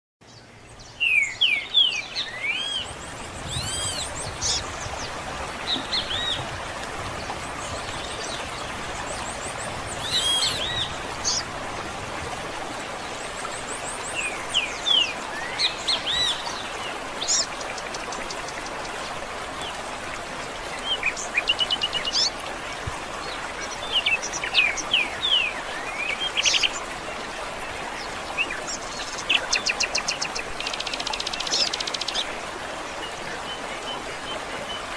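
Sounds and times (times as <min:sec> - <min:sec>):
songbirds singing and calling: 0:00.2 - 0:34.9.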